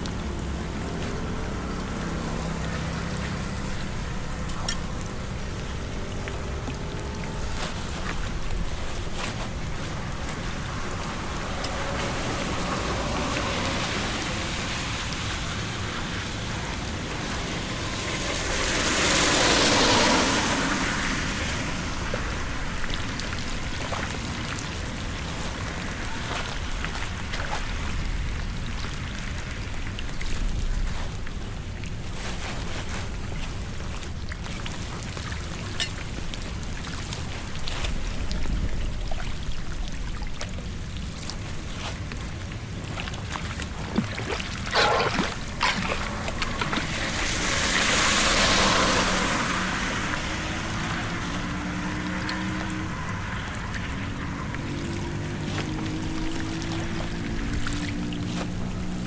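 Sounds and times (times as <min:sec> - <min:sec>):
floodwater rushing: 0:00.0 - 0:59.0
water splashing and running: 0:00.0 - 0:59.0
wind rumbling on microphone: 0:00.0 - 0:59.0.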